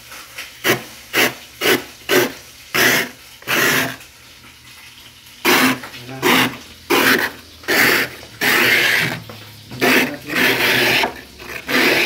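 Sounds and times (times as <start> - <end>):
scraper scraping frost: 0.6 - 4.0, 5.5 - 12.0.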